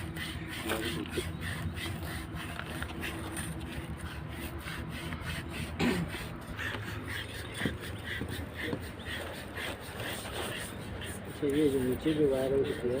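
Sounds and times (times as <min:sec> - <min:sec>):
rubbing strokes on cable insulation: 0:00.0 - 0:13.0.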